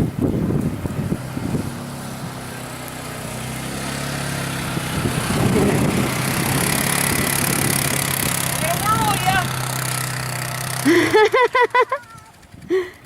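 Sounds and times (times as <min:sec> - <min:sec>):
wind hiss: 0:00.0 - 0:11.8
vehicle engine running: 0:00.0 - 0:13.0.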